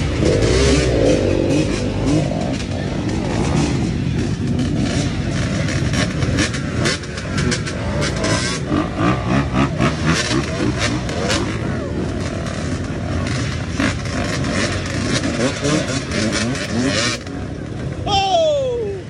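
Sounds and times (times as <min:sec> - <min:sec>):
dirt bike engine revving: 0:00.0 - 0:17.9.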